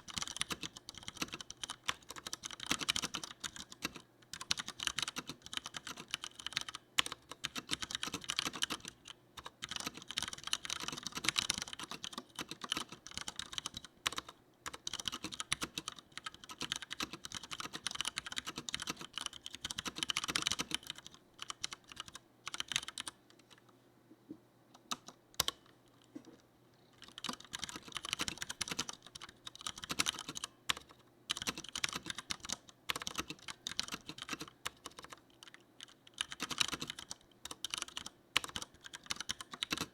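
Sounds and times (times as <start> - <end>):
fast typing on mechanical keyboard: 0.0 - 23.5, 27.0 - 39.9.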